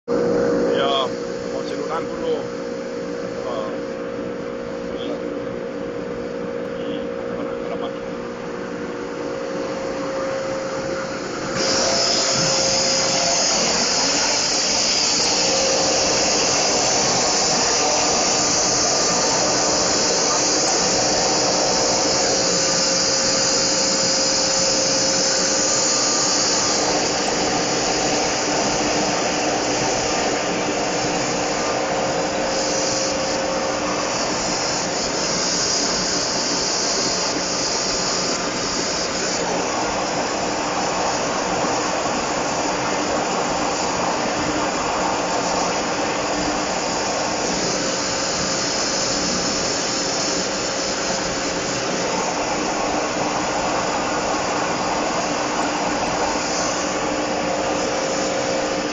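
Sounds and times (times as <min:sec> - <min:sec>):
loud steady hissing: 0:00.1 - 0:58.9
machine humming: 0:00.1 - 0:58.9.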